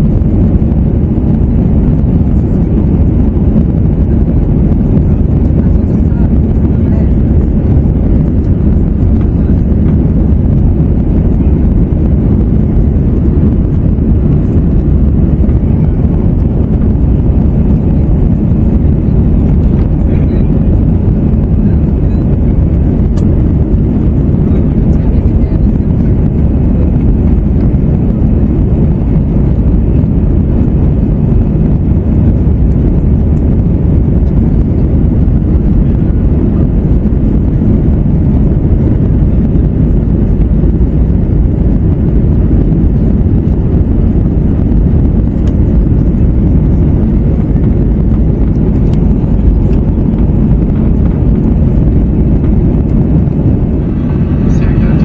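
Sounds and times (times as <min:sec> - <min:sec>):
air rushing over fuselage: 0:00.0 - 0:55.0
jet engines at climb thrust: 0:00.0 - 0:55.0.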